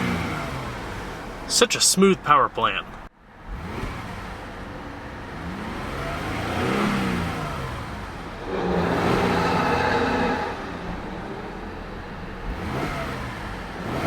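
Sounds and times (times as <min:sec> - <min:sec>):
car engine revving: 0:00.0 - 0:01.6, 0:02.6 - 0:14.0.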